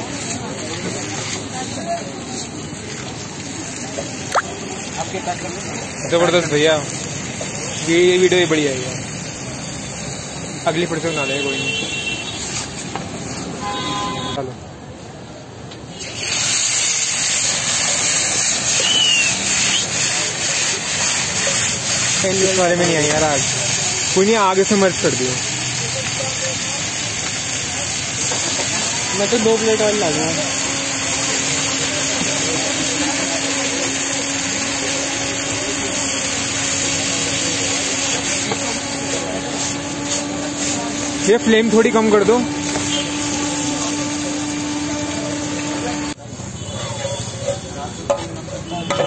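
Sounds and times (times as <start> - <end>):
gas burner rushing: 0.0 - 13.5, 15.8 - 46.2
food sizzling in a hot wok: 0.0 - 14.3, 15.8 - 46.2.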